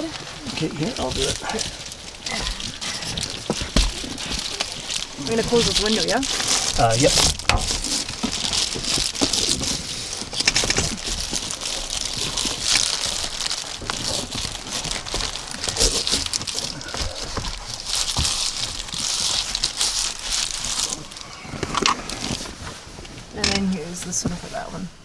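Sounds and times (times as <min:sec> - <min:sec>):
panels crinkling and rustling: 0:00.0 - 0:25.0.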